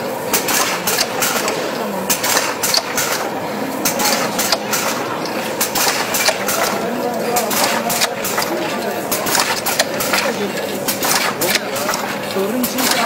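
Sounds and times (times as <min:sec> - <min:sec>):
filling machine clattering: 0:00.0 - 0:13.0.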